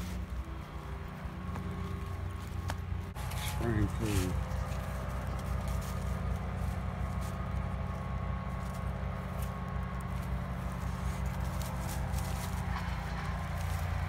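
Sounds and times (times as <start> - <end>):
dry leaves crackling: 0.0 - 14.0
small engine idling: 0.0 - 14.0.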